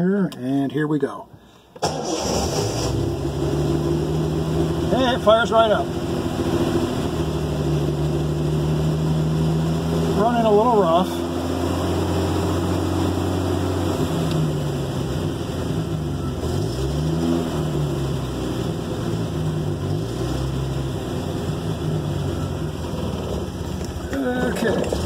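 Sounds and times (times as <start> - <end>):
car engine revving roughly: 1.8 - 25.0.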